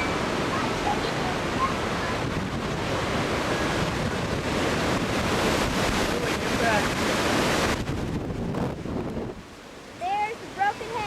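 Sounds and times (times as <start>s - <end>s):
strong wind rushing through trees: 0.0s - 11.0s
wind buffeting microphone: 0.0s - 11.0s.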